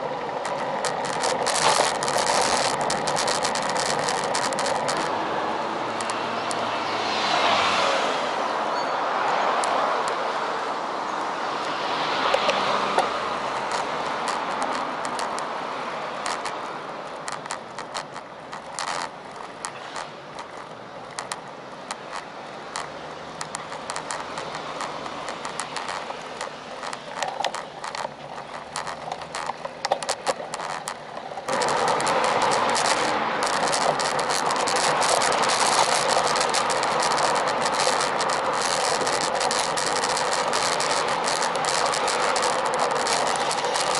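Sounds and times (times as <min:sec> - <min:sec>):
bike clicks and rattles: 0:00.0 - 0:08.1, 0:09.2 - 0:10.4, 0:11.1 - 0:43.9
cars passing: 0:00.0 - 0:43.9
wind and road noise: 0:00.0 - 0:43.9.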